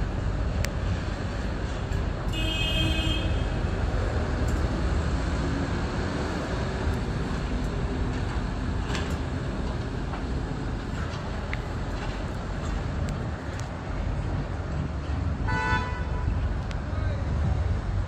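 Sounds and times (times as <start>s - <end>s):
city background rumble: 0.0s - 18.0s.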